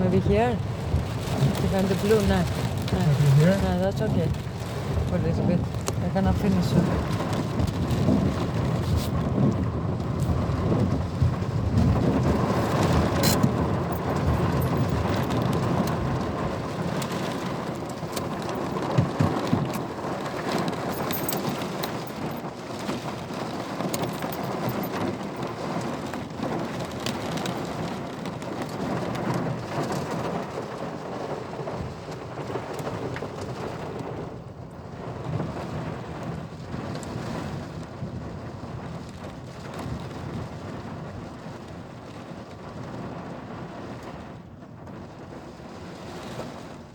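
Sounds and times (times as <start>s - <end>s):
heavy rain pouring: 0.0s - 46.9s
wind rumble: 0.0s - 46.9s.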